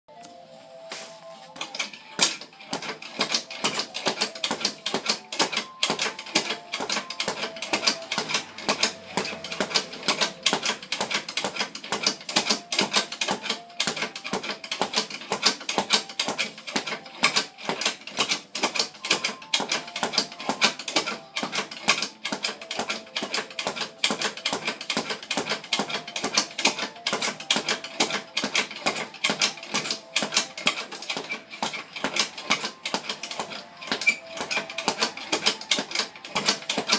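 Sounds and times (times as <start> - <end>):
speed bag rattling from punches: 1.6 - 36.9.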